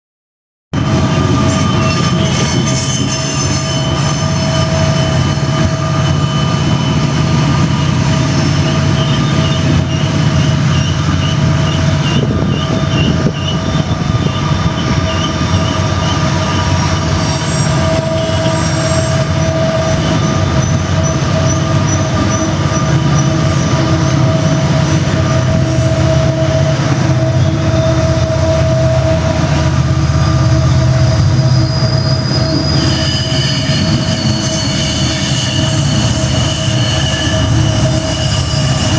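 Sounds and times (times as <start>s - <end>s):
diesel locomotive engines howling: 0.8s - 38.9s
train wheels squealing: 0.8s - 38.9s.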